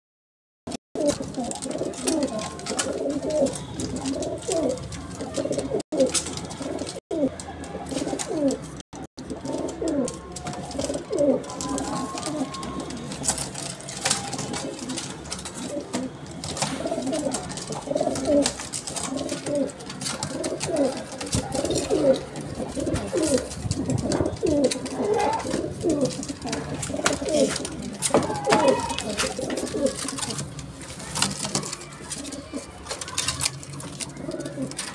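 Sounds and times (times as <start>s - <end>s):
pigeons cooing: 1.0s - 34.9s.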